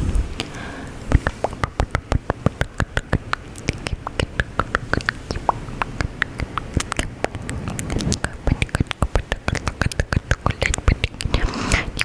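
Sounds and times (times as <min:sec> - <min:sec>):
wet mouth clicks and smacks: 0:00.4 - 0:12.0.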